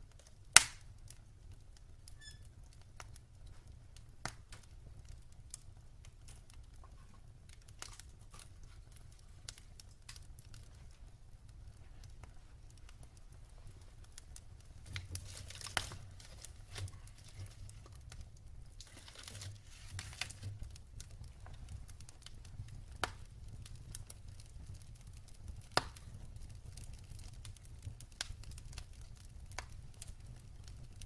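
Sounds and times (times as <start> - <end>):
sharp snaps of burning wood: 0.0 - 31.0
wood fire crackling: 0.0 - 31.0.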